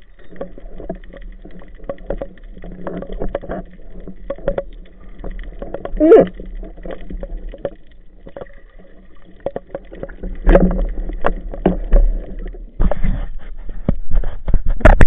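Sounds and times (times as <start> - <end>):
low water rumble: 0.0 - 15.0
rush of water: 0.0 - 15.0
underwater knocks and clicks: 0.0 - 15.0.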